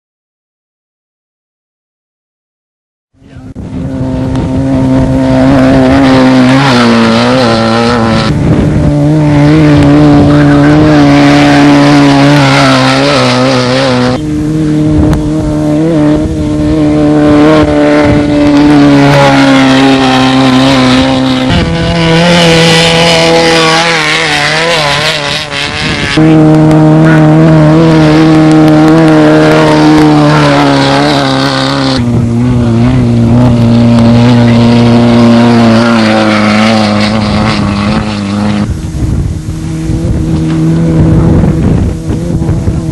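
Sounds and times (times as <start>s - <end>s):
race car engines running: 3.2s - 42.9s.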